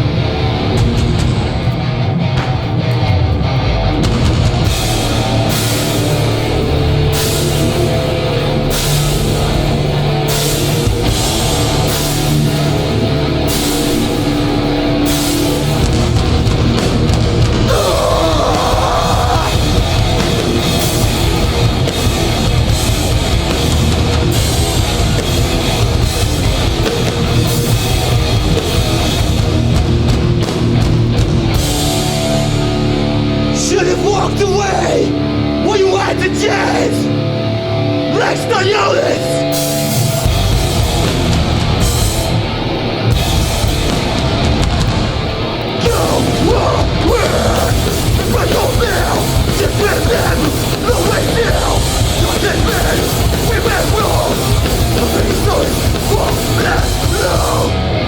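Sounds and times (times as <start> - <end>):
drum kit: 0.0 - 35.0, 39.1 - 58.0
distorted electric guitars: 0.0 - 58.0.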